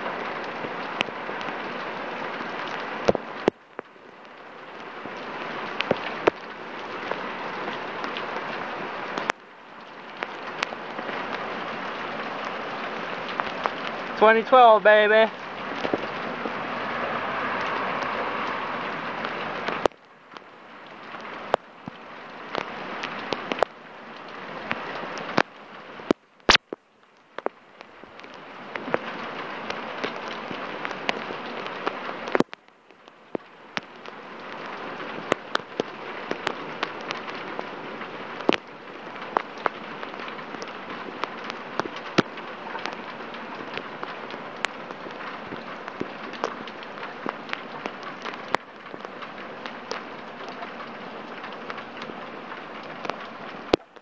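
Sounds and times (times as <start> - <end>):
raindrops tapping close by: 0.0 - 54.0
torrential rain hissing: 0.0 - 54.0.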